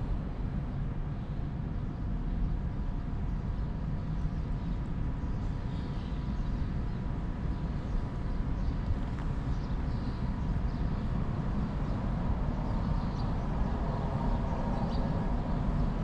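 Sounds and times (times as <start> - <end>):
faint steady hum: 0.0 - 16.0
low outdoor rumble: 0.0 - 16.0.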